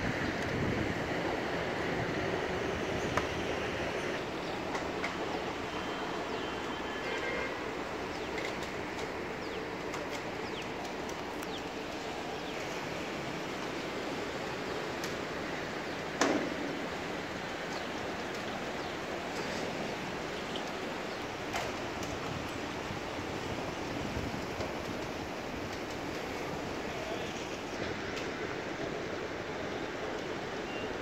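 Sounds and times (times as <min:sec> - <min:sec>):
steady rolling noise: 0:00.0 - 0:31.0.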